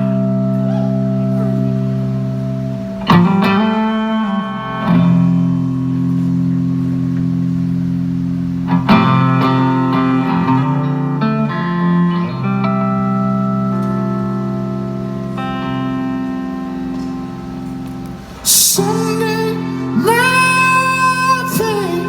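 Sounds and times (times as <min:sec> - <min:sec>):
live band with guitar chords: 0:00.0 - 0:22.0.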